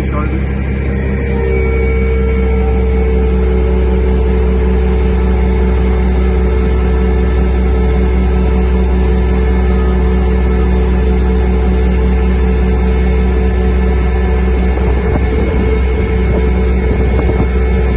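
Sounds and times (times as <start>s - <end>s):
fire truck diesel engine running: 0.0s - 17.9s.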